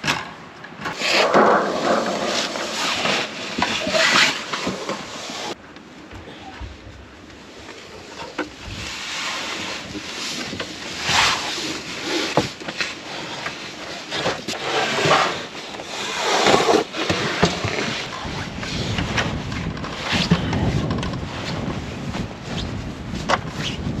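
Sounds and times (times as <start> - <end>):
gusting snowstorm wind: 0.9 - 5.6, 6.8 - 24.0.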